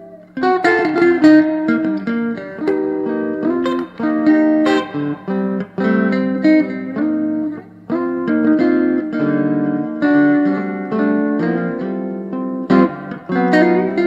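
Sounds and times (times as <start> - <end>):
electric guitars playing chords: 0.0 - 14.0.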